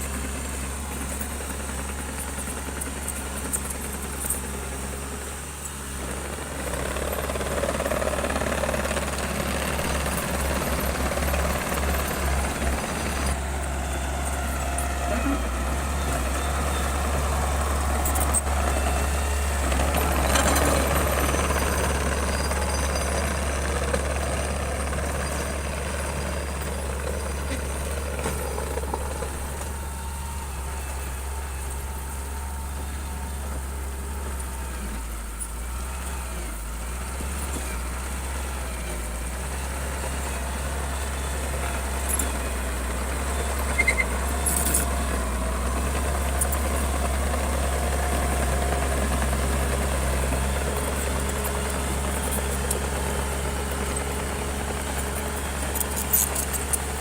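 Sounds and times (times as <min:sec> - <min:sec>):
heavy diesel engine working: 0:00.0 - 0:57.0.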